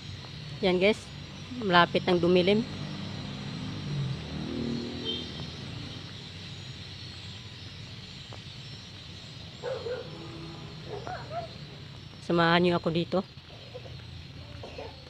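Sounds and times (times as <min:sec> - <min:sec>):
distant calls: 0:00.0 - 0:15.0.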